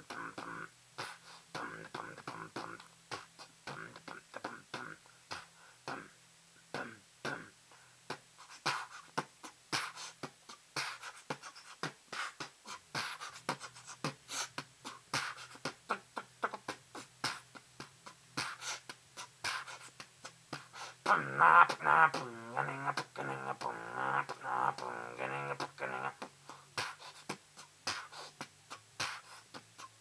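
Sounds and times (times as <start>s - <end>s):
beatboxing: 0.0s - 30.0s.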